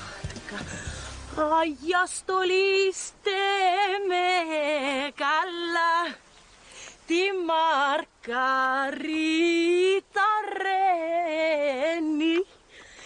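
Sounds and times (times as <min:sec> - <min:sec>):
woman singing unaccompanied: 0:00.0 - 0:06.4, 0:07.0 - 0:12.6.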